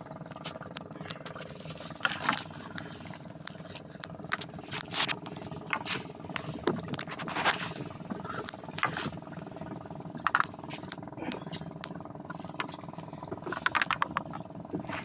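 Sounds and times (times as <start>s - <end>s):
small boat engine running: 0.0s - 15.0s
water splashes: 0.0s - 15.0s.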